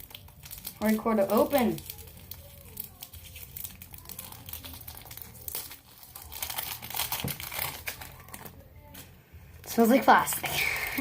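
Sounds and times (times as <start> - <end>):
plastic shrink-wrap crinkling: 0.0 - 11.0.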